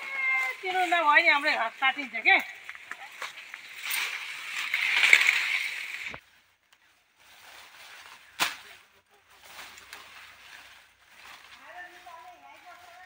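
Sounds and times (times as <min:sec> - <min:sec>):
leaves and brush rustling: 0:00.0 - 0:13.0
sickle cutting plants: 0:00.0 - 0:13.0.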